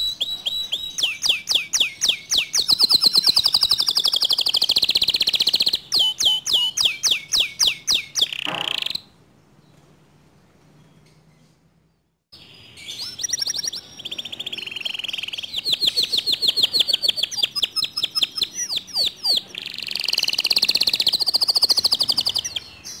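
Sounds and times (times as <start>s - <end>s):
canary singing trills: 0.0s - 9.1s, 12.4s - 23.0s.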